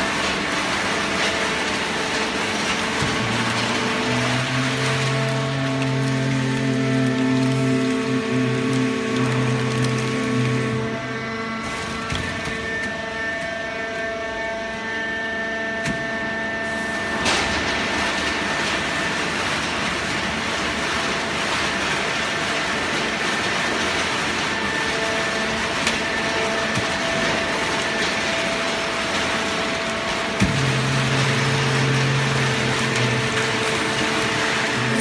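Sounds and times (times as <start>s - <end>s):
baler machine hum: 0.0s - 15.8s, 16.4s - 35.0s
dense loud machine noise: 0.0s - 35.0s
whining machine tones: 0.9s - 19.2s, 24.4s - 35.0s.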